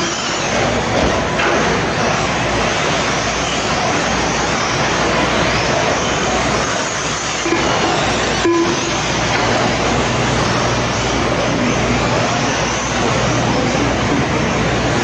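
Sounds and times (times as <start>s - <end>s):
rc trucks motor and tyre noise: 0.0s - 15.0s.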